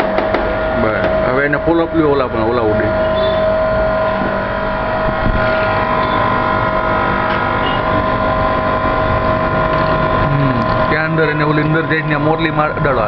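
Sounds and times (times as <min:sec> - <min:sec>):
soda machine humming: 0:00.0 - 0:13.0.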